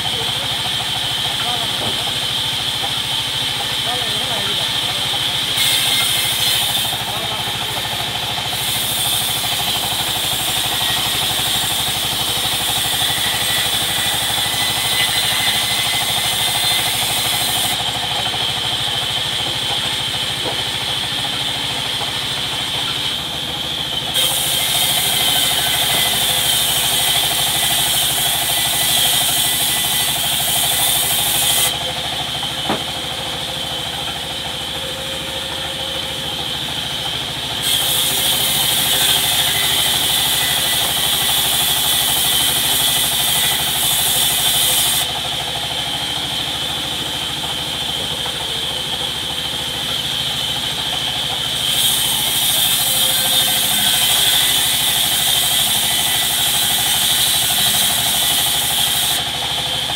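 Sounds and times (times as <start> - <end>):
band saw whining: 0.0 - 59.9
saw blade cutting wood: 0.0 - 59.9.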